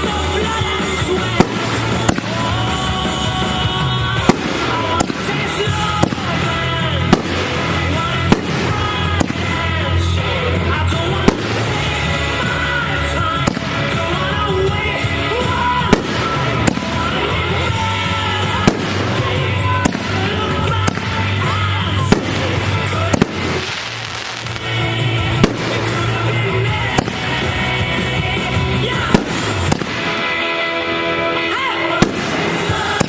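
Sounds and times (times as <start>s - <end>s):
fireworks bangs: 0.0s - 14.5s, 15.4s - 30.7s, 32.0s - 33.0s
loud music with heavy bass: 0.0s - 33.0s.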